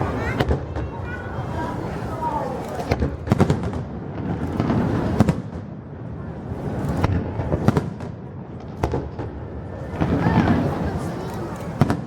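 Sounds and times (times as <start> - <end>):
fireworks bangs: 0.0 - 12.0
rumbling crackle of fireworks: 0.0 - 12.0.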